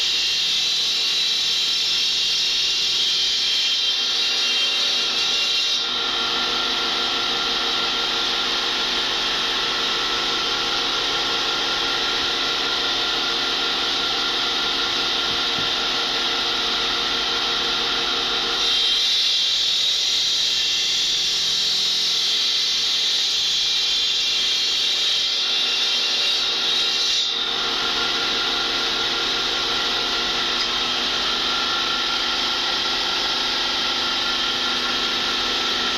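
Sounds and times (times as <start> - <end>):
stone saw grinding whine: 0.0 - 35.9.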